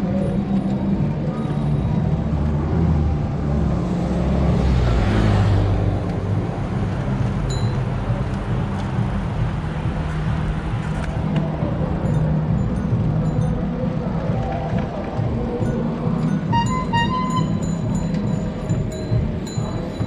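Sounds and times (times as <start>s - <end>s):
wind rumble on microphone: 0.0s - 16.6s
road traffic noise: 0.0s - 20.0s.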